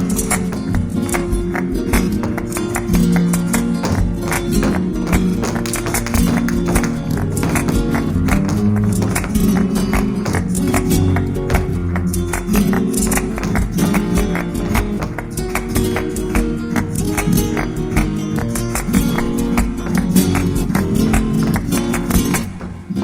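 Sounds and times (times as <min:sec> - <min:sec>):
flamenco guitar: 0:00.0 - 0:23.0.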